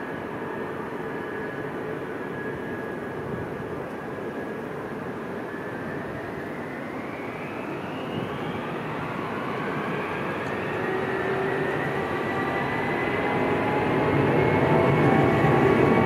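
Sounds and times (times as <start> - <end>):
jet engines spooling up: 0.0 - 16.0.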